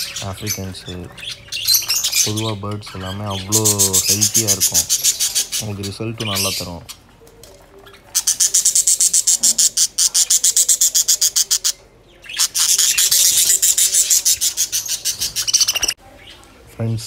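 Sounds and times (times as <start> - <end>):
parrots chattering: 0.0 - 16.5.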